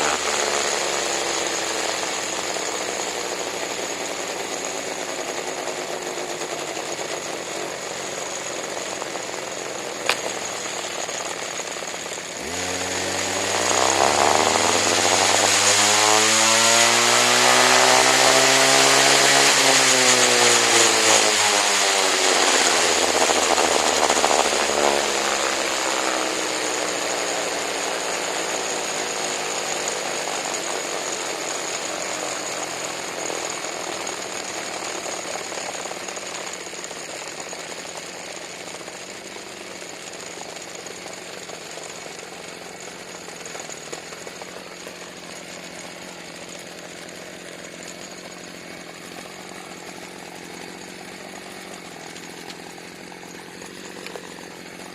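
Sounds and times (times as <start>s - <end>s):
small engine spinning flywheel: 0.0s - 54.9s.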